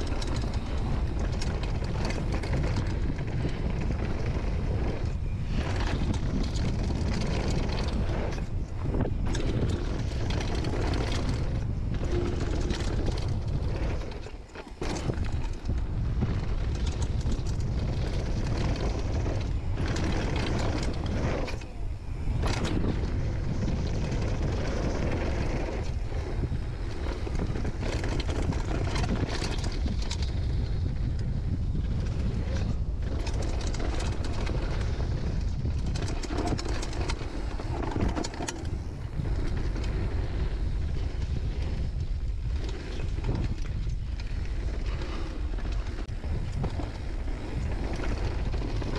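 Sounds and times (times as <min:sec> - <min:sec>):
bike knocking and rattling: 0:00.0 - 0:48.9
tyres on loose gravel: 0:00.0 - 0:48.9
wind buffeting the microphone: 0:00.0 - 0:48.9.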